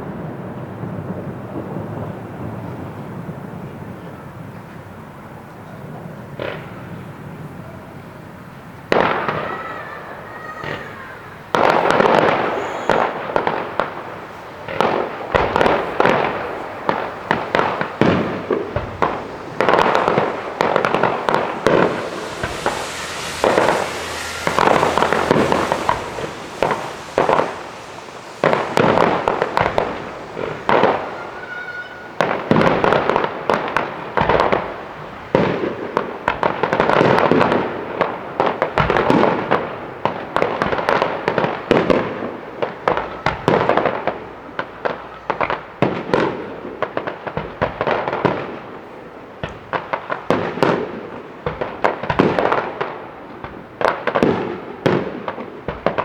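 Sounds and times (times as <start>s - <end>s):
faint fireworks whistles: 0.0s - 56.0s
fireworks bangs and pops: 0.0s - 56.0s.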